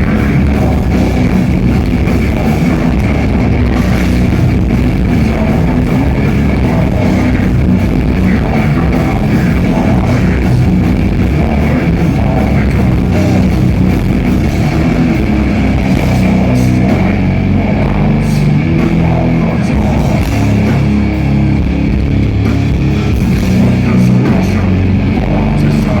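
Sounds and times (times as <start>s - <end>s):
death metal band playing live: 0.0s - 26.0s.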